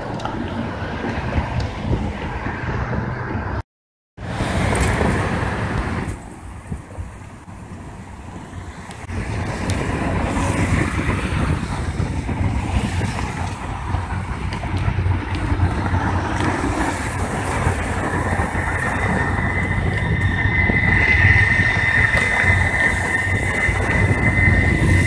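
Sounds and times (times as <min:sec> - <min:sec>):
freight train rumbling on rails: 0:00.0 - 0:03.6, 0:04.2 - 0:25.0
high steady squeal: 0:04.6 - 0:25.0.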